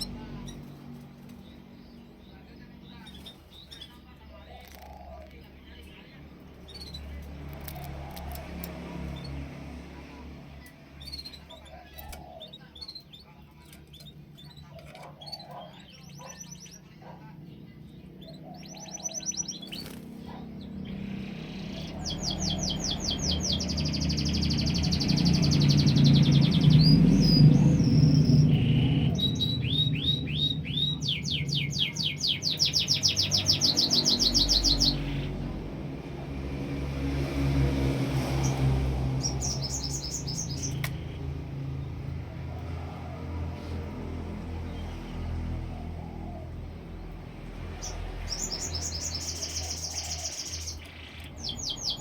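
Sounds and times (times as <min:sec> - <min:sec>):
canary singing trills: 0:00.0 - 0:35.8, 0:38.3 - 0:43.5, 0:44.6 - 0:52.0.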